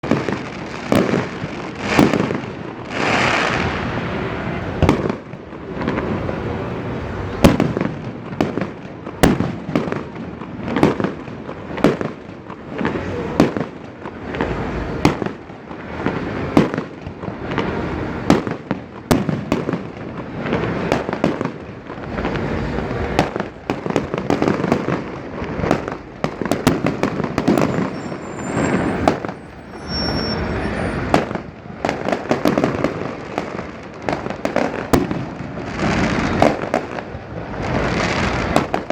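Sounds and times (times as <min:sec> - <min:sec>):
continuous rumbling noise: 0:00.0 - 0:38.9
fireworks bangs: 0:00.0 - 0:38.9.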